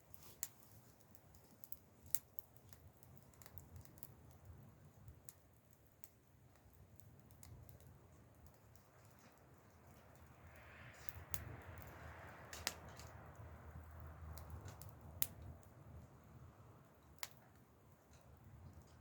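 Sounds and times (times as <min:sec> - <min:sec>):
campfire crackling: 0:00.0 - 0:19.0
fire hissing softly: 0:00.0 - 0:19.0.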